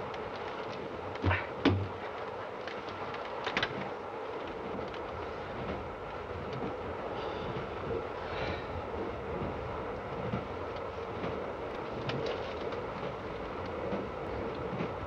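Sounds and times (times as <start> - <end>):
train carriage rumbling: 0.0 - 15.0.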